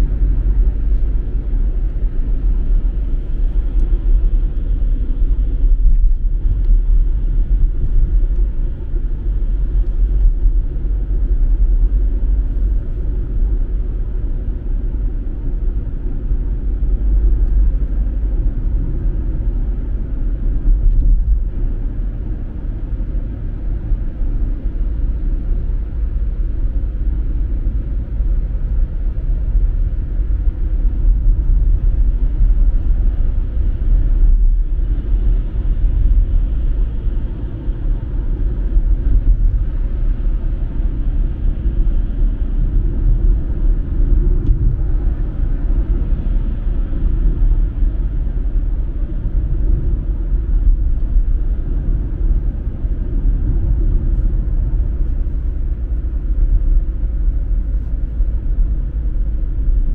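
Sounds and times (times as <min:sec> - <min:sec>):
car driving low rumble: 0:00.0 - 0:59.9.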